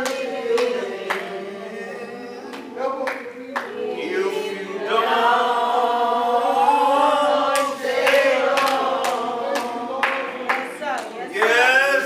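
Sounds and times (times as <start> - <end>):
congregation singing a hymn: 0.0 - 12.0.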